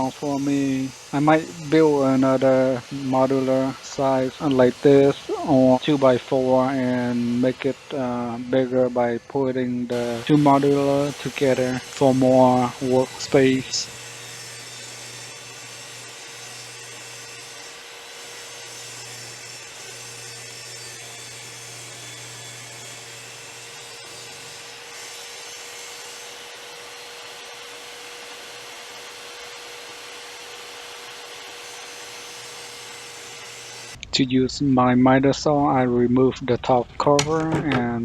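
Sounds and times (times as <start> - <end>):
table saw cutting wood: 0.0 - 34.1.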